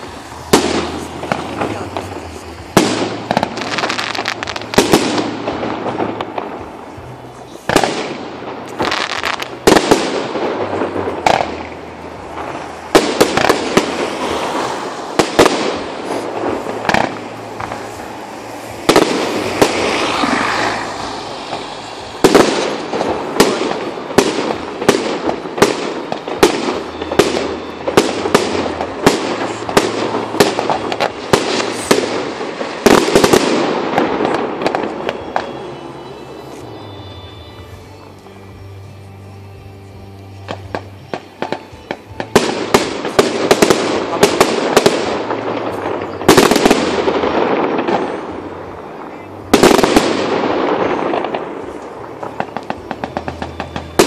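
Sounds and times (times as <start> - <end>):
fireworks bangs and crackling: 0.0 - 39.0, 40.0 - 54.0.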